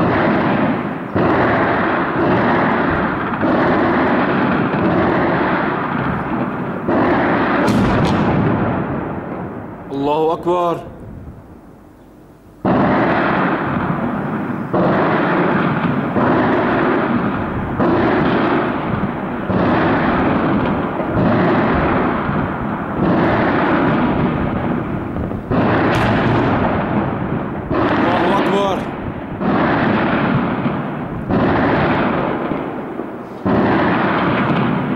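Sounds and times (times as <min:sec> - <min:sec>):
heavy shelling blasts with echo: 0:00.0 - 0:11.8, 0:12.6 - 0:34.9.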